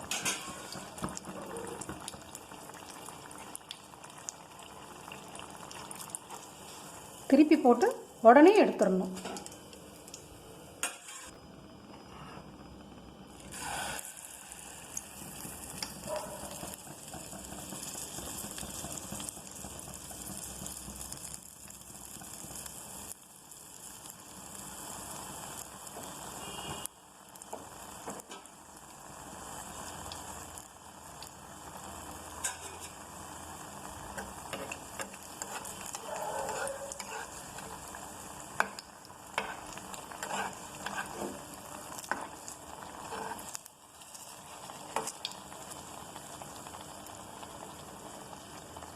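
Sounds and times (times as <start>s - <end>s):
batter sizzling in hot oil: 0.0s - 11.4s, 12.6s - 48.9s.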